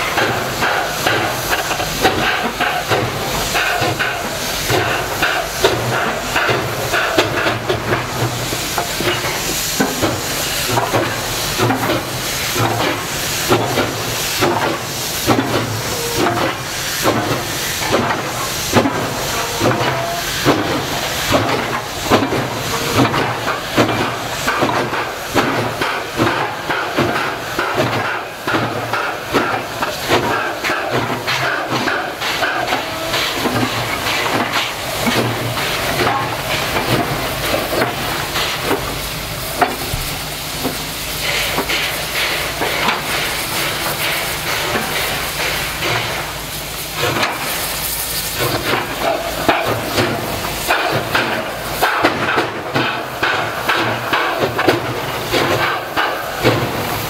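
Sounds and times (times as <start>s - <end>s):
hissing steam: 0.0s - 57.0s
steam locomotive exhaust chuffs: 0.0s - 57.0s.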